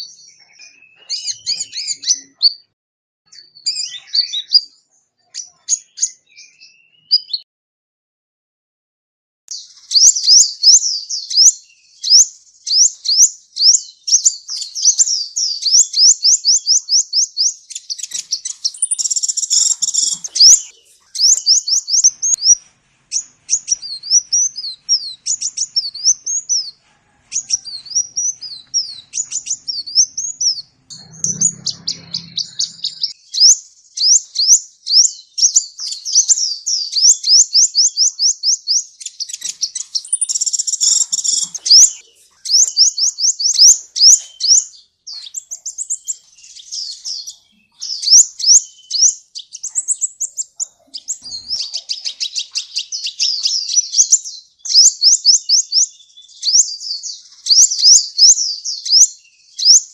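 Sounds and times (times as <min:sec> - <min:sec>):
sunbird singing trills: 0:00.0 - 0:02.7, 0:09.5 - 0:59.9.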